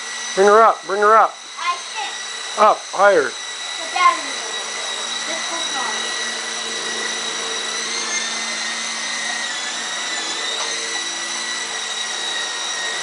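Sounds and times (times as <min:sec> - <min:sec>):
rc helicopter rotor whine: 0:00.0 - 0:13.0.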